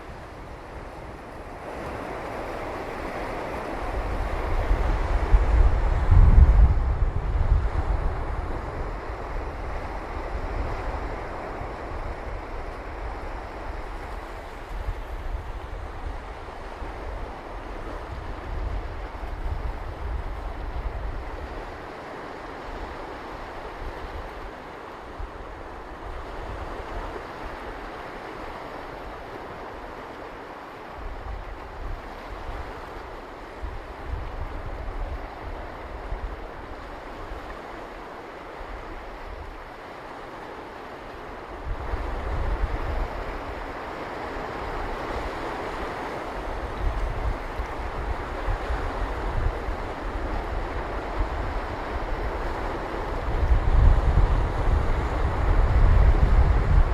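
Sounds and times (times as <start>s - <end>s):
wind buffeting microphone: 0.0s - 29.8s, 31.0s - 37.5s, 41.3s - 56.9s
ocean surf washing on beach: 0.0s - 56.9s.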